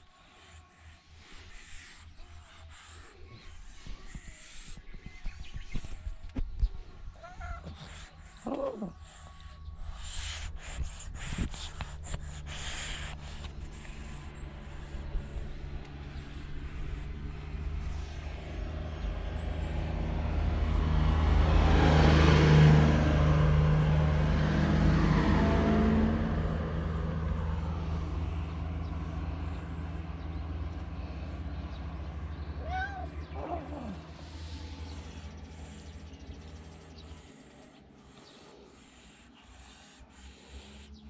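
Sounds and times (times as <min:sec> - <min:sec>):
low engine hum: 0:00.0 - 0:41.0
motor vehicle driving past: 0:00.5 - 0:41.0.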